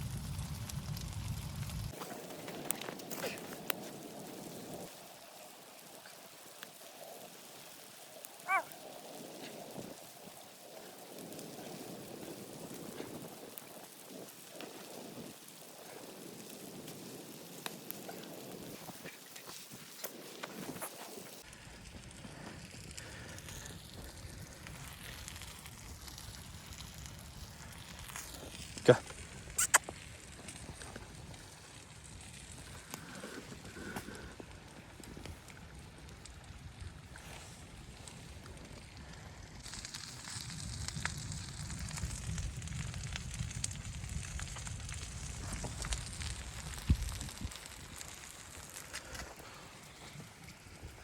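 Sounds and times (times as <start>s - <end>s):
low wind rumble: 0.0s - 5.0s, 8.8s - 51.0s
wood fire crackling: 0.0s - 51.0s.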